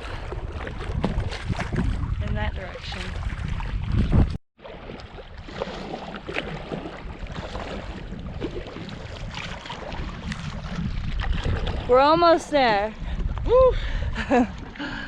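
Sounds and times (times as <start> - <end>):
wind buffeting microphone: 0.0 - 4.4, 5.4 - 15.0
paddles splashing: 0.0 - 15.0
water lapping: 0.0 - 15.0.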